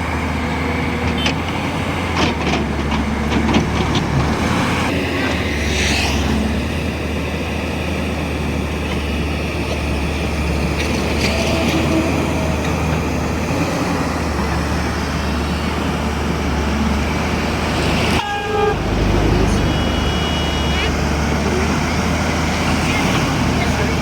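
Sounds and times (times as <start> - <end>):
diesel excavator engine running: 0.0 - 24.0.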